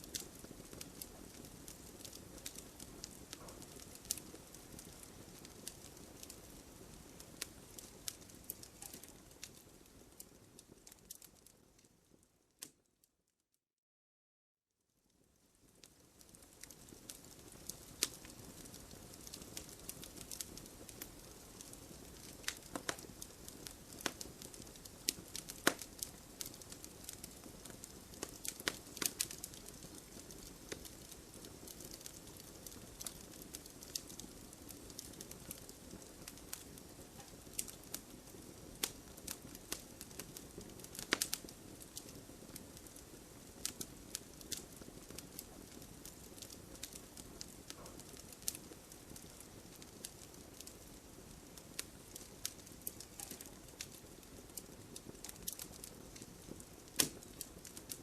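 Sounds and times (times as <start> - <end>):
wood fire crackling: 0.0 - 12.8, 15.2 - 58.0.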